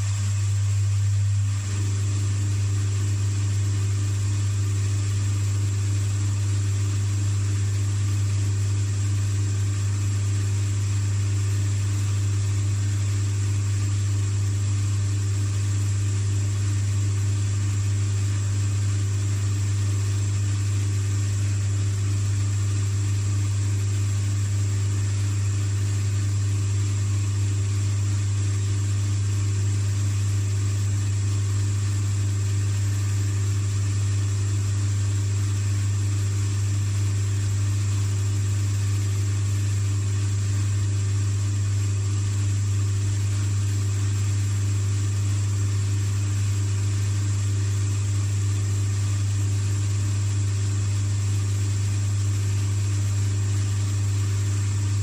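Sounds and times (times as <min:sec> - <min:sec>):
machine motor humming: 0:00.0 - 0:55.0.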